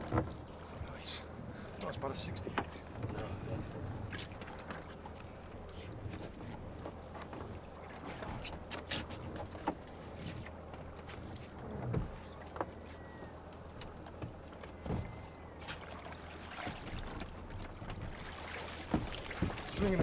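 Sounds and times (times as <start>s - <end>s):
low steady hum: 0.0s - 20.0s
water noise: 0.0s - 20.0s
rope knocking and rubbing on hull: 2.4s - 20.0s.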